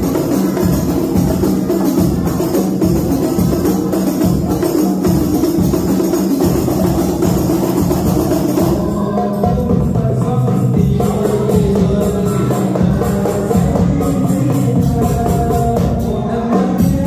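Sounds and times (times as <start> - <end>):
frame drums in fast rhythm: 0.0 - 17.0.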